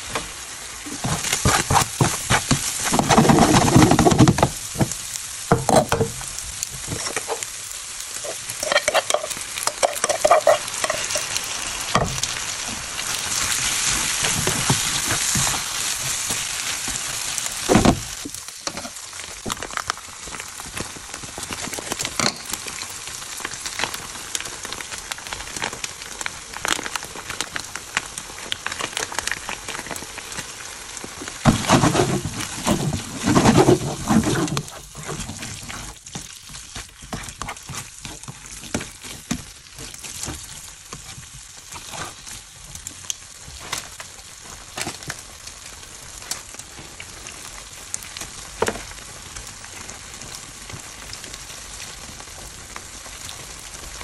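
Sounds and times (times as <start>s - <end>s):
food sizzling in frying pan: 0.0s - 54.0s.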